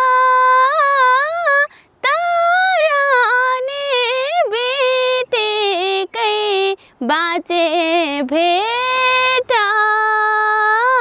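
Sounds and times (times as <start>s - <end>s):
woman singing in high voice: 0.0s - 11.0s.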